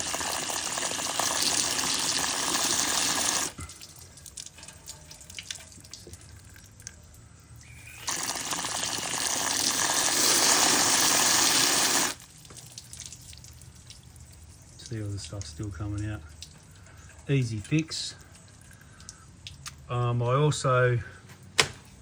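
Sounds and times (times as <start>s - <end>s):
garden hose spraying water: 0.0s - 20.1s.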